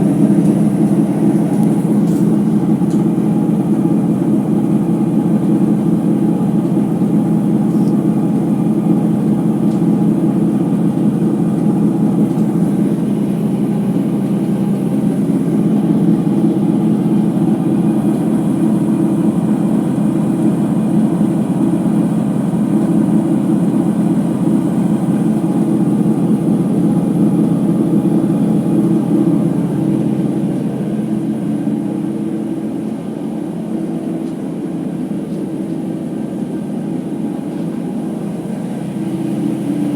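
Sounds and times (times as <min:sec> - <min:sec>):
washing machine spinning rumble: 0:00.0 - 0:39.9.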